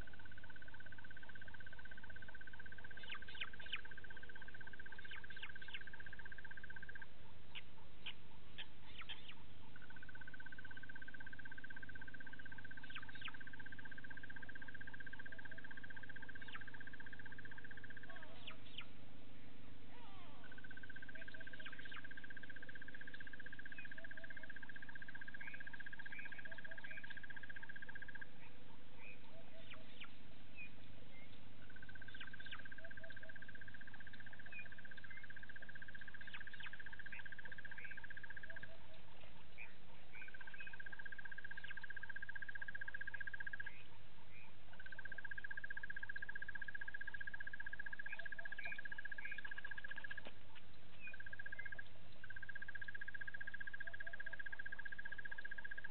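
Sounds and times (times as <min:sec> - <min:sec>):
low paired calls: 0:00.0 - 0:55.9.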